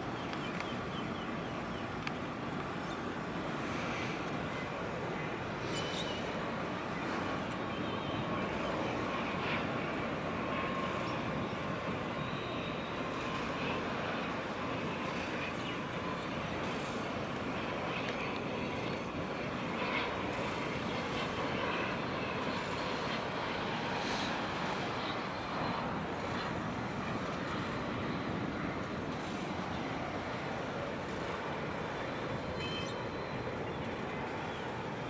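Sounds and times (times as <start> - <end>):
faint constant hum: 0.0 - 35.0
ship engine drone: 0.0 - 35.0.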